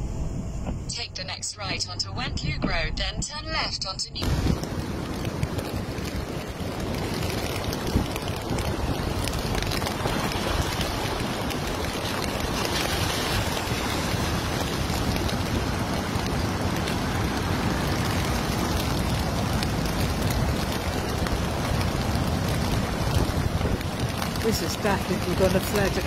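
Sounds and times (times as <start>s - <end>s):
wind buffeting microphone: 4.2s - 26.0s.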